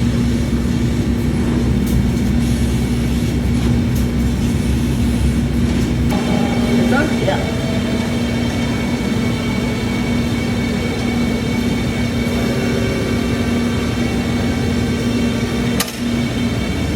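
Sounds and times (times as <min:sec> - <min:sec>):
metal-cutting machine humming: 0:00.0 - 0:16.9.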